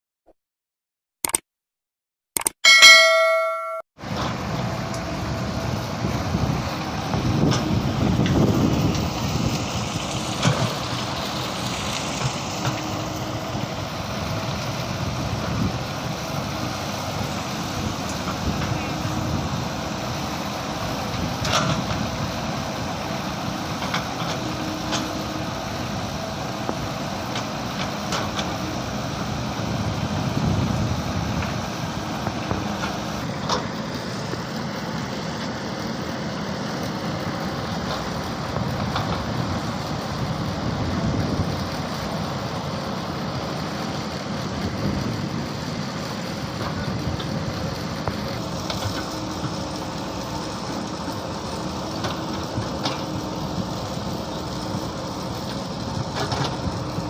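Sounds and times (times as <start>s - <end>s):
excavator engine running: 2.4s - 57.0s.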